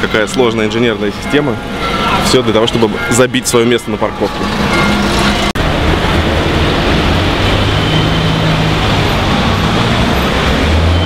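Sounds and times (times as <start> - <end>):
car engines running: 0.0 - 11.0
road noise: 0.0 - 11.0.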